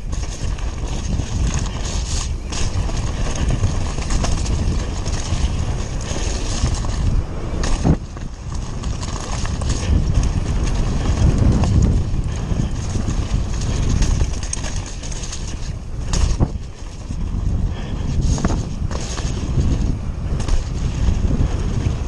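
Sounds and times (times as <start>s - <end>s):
bike rattling over bumps: 0.0s - 22.0s
bike tyres rumbling on dirt: 0.0s - 22.0s.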